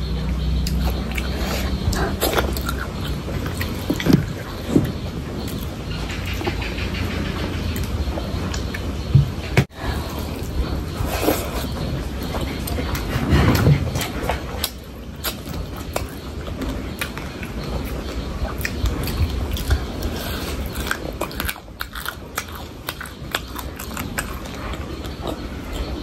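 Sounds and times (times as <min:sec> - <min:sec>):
chewing and biting food: 0:00.3 - 0:06.7, 0:09.7 - 0:26.0.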